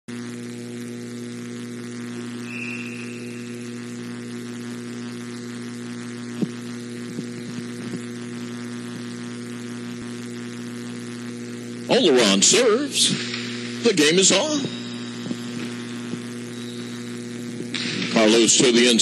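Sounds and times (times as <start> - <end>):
electrical mains hum: 0.1 - 19.0.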